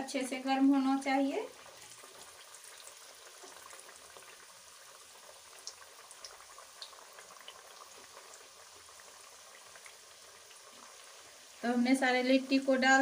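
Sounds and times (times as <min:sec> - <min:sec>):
deep-frying bubbling hiss: 0:00.0 - 0:13.0.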